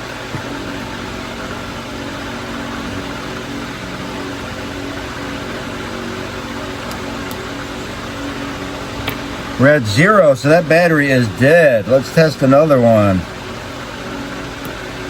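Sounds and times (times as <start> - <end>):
mechanical hum and hiss: 0.0 - 15.0.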